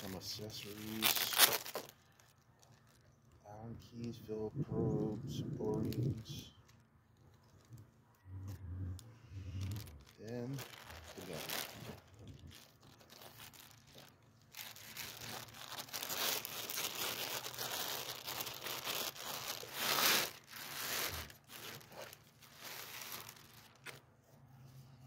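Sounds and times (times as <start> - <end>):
plastic bag crinkling: 0.0 - 3.4, 4.8 - 8.6, 9.4 - 24.1.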